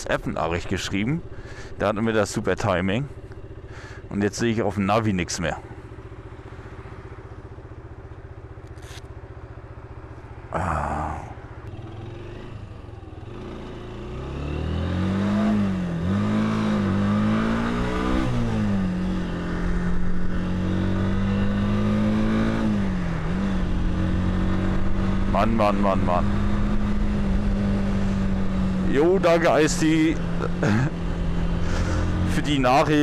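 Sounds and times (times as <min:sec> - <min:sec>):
motorcycle engine: 0:00.0 - 0:33.0.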